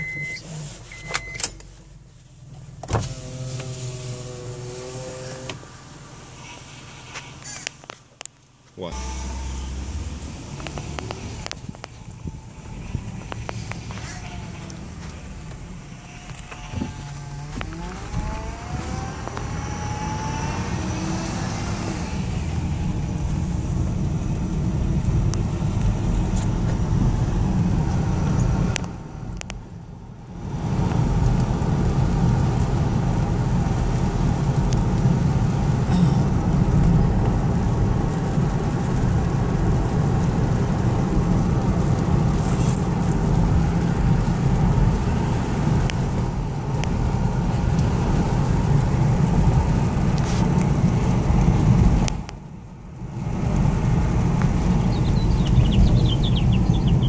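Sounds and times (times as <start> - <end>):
car engine accelerating: 2.5 - 7.7, 8.8 - 57.0.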